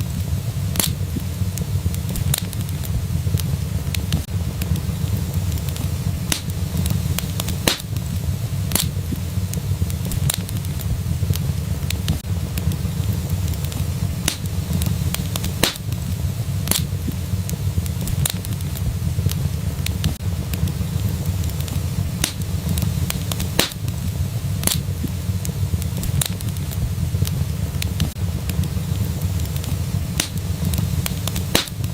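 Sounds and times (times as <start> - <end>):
low rumble: 0.0 - 31.9
wood fire crackling: 0.0 - 31.9.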